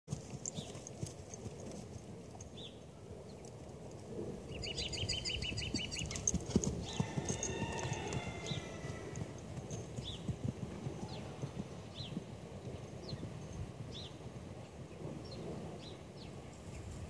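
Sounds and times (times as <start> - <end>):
horse hoofbeats on grass: 0.1 - 2.8, 3.4 - 17.0.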